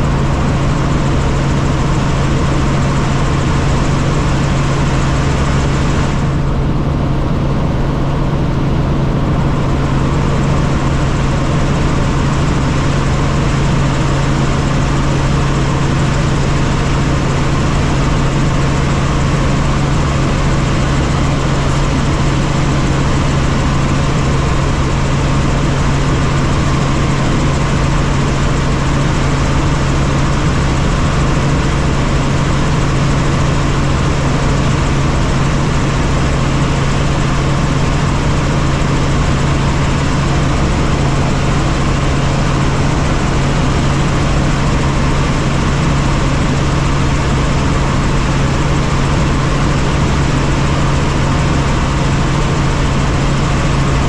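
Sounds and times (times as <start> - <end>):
constant rushing noise: 0.0 - 54.0
helicopter engine and rotors humming: 0.0 - 54.0.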